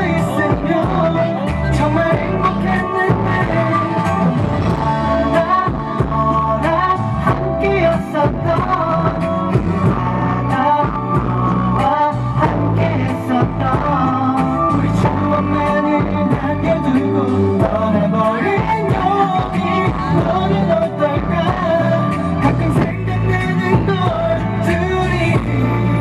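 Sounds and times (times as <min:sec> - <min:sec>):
backing music with steady beat: 0:00.0 - 0:26.0
male vocal group singing: 0:00.0 - 0:26.0.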